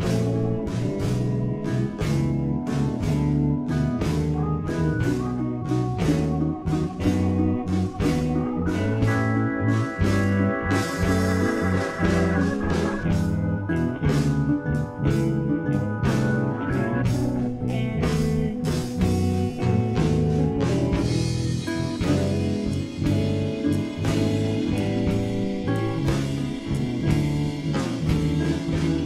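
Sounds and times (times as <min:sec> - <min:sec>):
slow blues backing track: 0:00.0 - 0:29.0.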